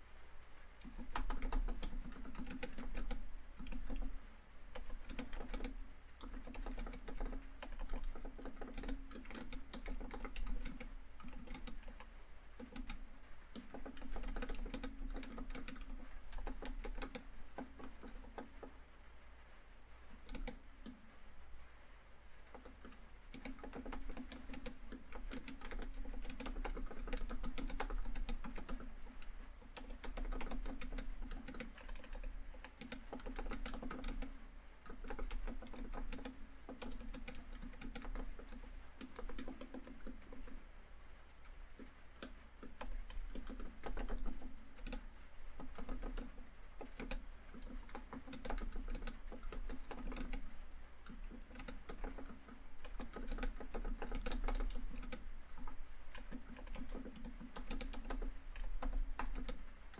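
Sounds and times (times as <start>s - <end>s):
laptop keyboard typing: 0.8s - 18.8s, 20.1s - 21.0s, 22.5s - 40.7s, 41.3s - 59.9s.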